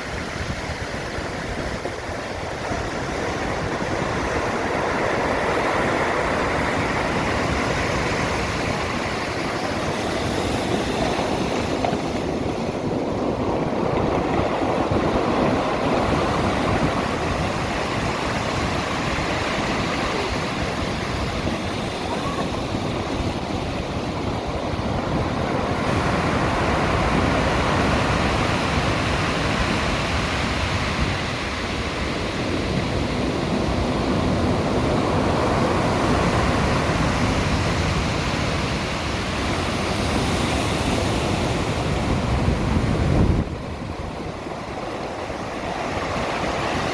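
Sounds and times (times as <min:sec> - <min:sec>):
waves breaking: 0:00.0 - 0:46.9
wind rumbling on microphone: 0:00.0 - 0:46.9.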